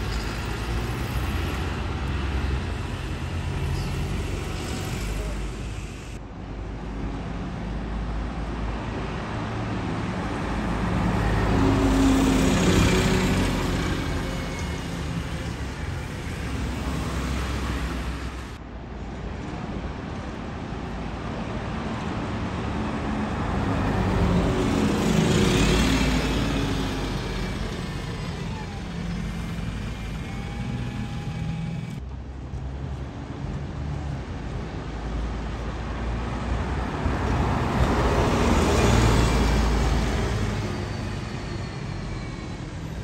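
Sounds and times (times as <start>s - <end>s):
buses driving past: 0.0s - 43.0s.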